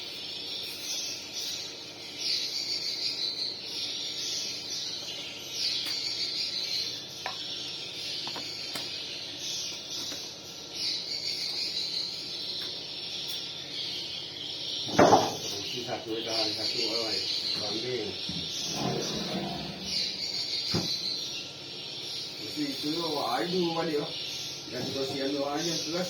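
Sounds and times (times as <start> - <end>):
high buzzy bird chirping: 0.0 - 26.0.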